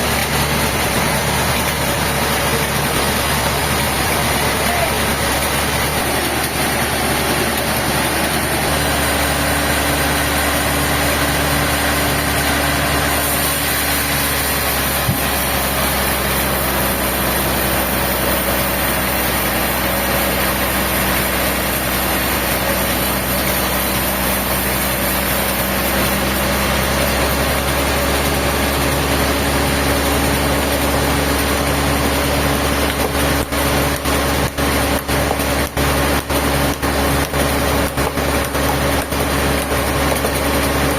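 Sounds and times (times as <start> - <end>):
engine humming: 0.0 - 40.9.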